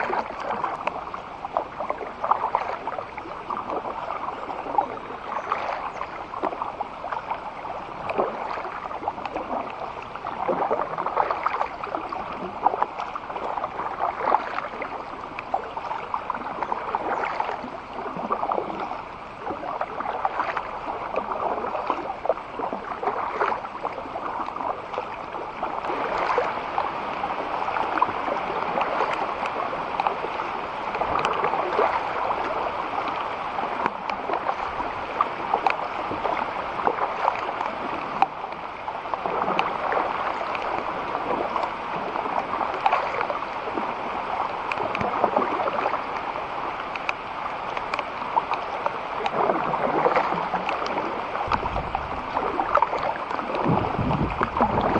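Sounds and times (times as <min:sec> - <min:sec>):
water splashing around kayak: 0:00.0 - 0:54.9.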